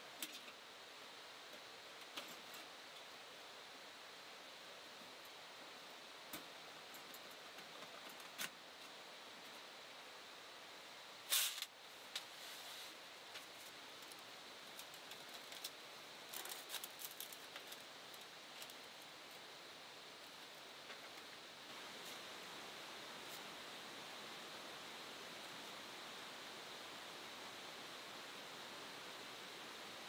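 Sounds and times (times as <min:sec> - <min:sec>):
faint hiss: 0:00.0 - 0:30.0
rustles: 0:00.0 - 0:30.0.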